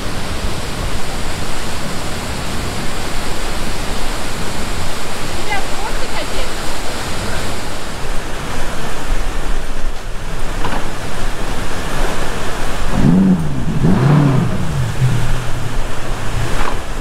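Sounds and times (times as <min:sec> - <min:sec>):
outboard motors revving: 0:00.0 - 0:17.0
waterfall rushing: 0:00.0 - 0:17.0.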